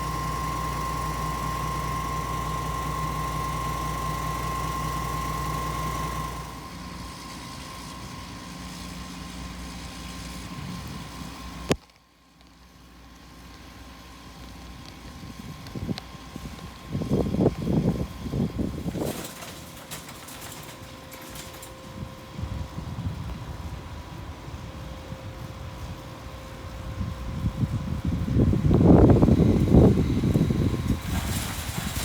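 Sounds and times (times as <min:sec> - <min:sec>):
concrete pump engine hum: 0:00.0 - 0:32.0.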